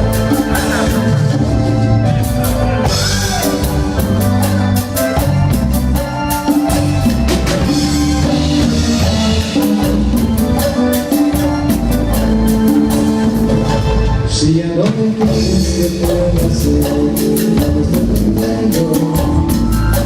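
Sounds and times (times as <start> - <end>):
bass line: 0.0 - 20.0
cumbia band playing: 0.0 - 20.0
drum kit and percussion: 0.0 - 20.0.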